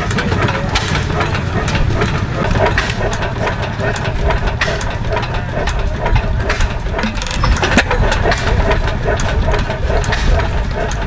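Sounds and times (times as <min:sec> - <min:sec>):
sharp engine clicks: 0:00.0 - 0:11.0
stationary gas engine running: 0:00.0 - 0:11.0.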